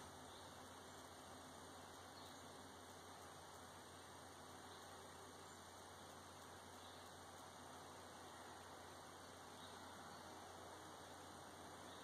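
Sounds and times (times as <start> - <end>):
faint even hiss: 0.0 - 12.0
steady low hum: 0.0 - 12.0.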